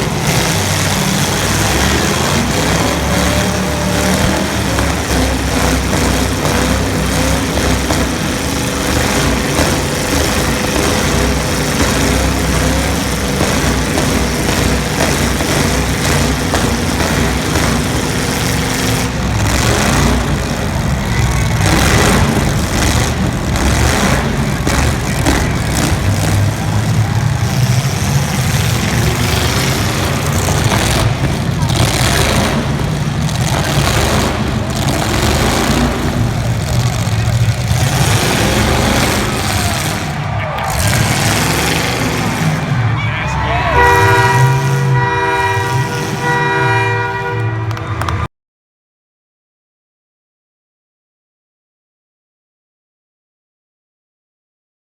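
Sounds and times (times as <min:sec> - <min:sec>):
car engines revving: 0:00.0 - 0:48.3.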